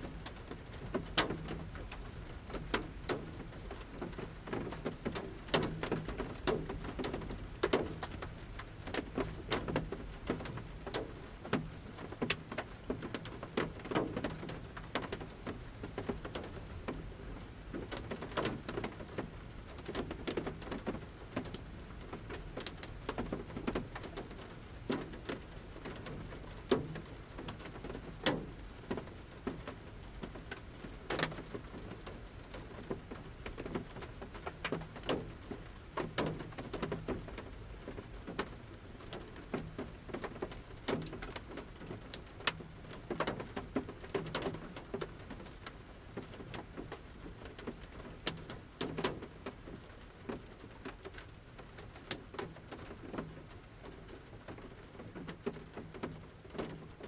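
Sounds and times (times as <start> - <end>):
light rain hiss: 0.0 - 57.0
raindrops tapping on metal roof: 0.0 - 57.0.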